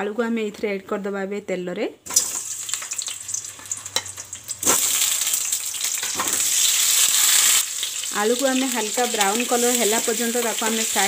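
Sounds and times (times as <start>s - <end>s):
oil sizzling loudly: 2.1s - 11.0s.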